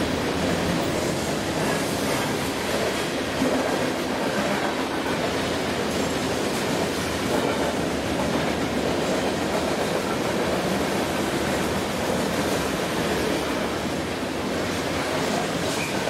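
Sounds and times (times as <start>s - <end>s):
train wheels rolling on rail: 0.0s - 16.0s.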